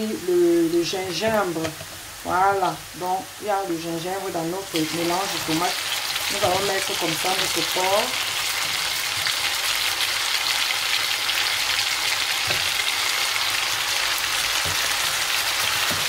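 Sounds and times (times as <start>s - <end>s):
meat and onions sizzling in oil: 0.0s - 16.0s.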